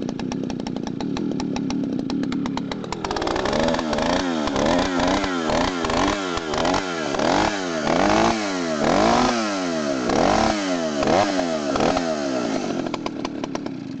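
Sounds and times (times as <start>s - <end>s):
chainsaw revving and idling: 0.0s - 14.0s.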